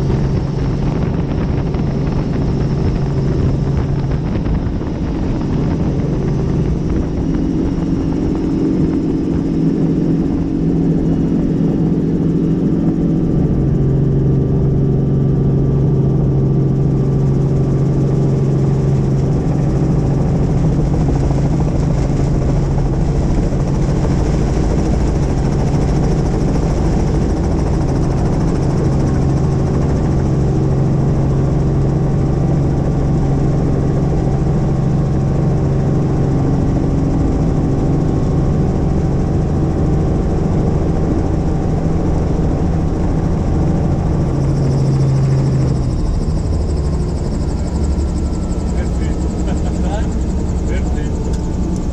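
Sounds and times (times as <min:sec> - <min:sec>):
helicopter running: 0:00.0 - 0:51.9.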